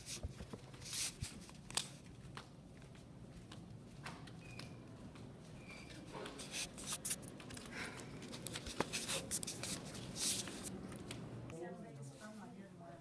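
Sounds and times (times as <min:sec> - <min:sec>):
low steady hum: 0:01.3 - 0:13.0.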